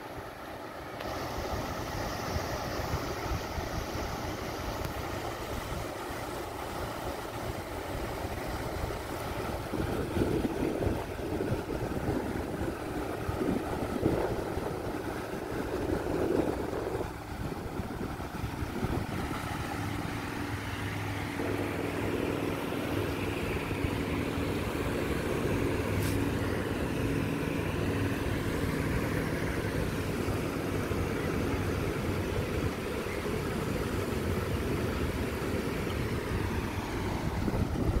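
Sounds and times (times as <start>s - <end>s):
low engine hum: 0.0s - 38.0s
surf washing onto sandy beach: 0.0s - 38.0s.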